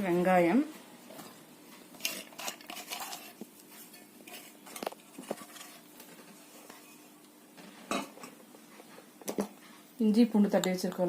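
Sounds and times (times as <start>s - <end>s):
faint rustling and patter: 0.0s - 10.0s.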